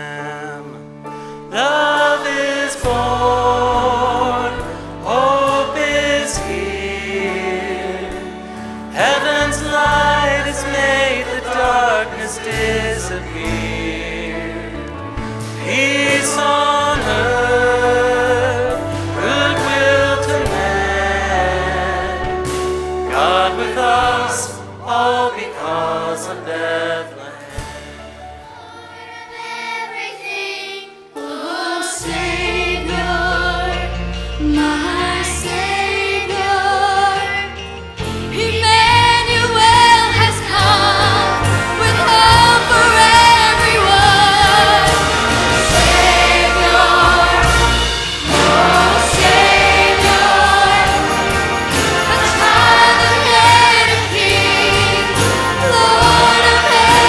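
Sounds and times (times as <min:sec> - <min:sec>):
choir singing with orchestra: 0:00.0 - 0:57.0.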